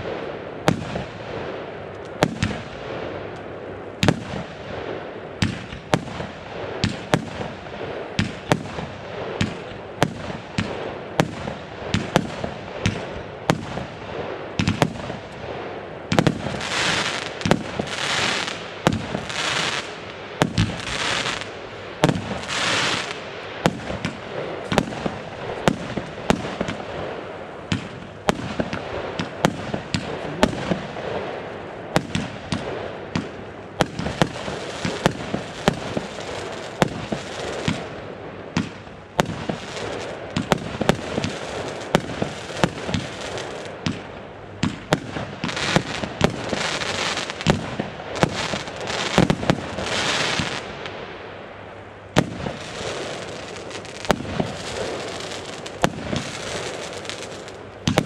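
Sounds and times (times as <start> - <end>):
fireworks bangs: 0.0 - 3.4, 4.0 - 51.0, 52.1 - 58.0
fireworks crackling and hissing: 0.0 - 58.0.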